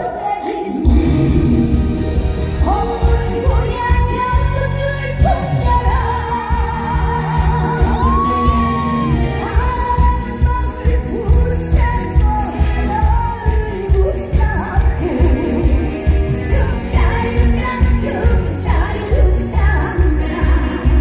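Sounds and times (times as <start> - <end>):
live band playing: 0.0 - 21.0
woman singing: 0.0 - 21.0.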